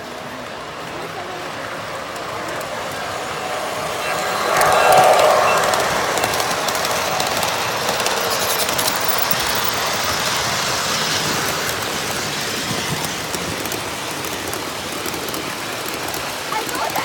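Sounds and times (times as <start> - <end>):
model trains on track: 0.0 - 17.0.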